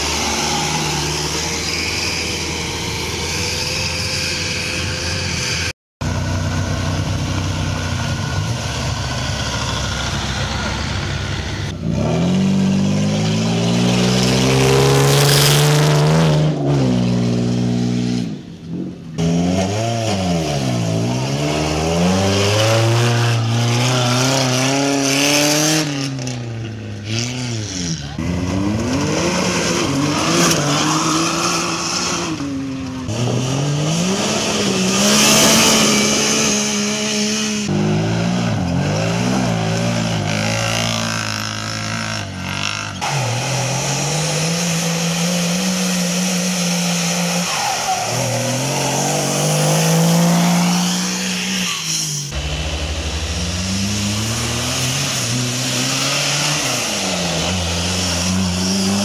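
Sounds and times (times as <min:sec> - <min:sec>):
off-road engines revving: 0:00.0 - 0:59.0.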